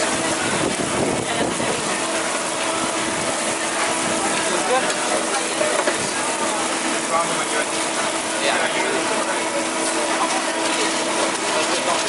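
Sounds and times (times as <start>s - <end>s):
food sizzling on griddle: 0.0s - 12.0s
voices in background: 0.0s - 12.0s.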